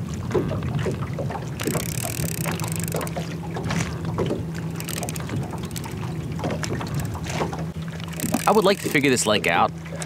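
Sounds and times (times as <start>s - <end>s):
boat motor humming: 0.0s - 10.0s
water lapping against hull: 0.0s - 10.0s.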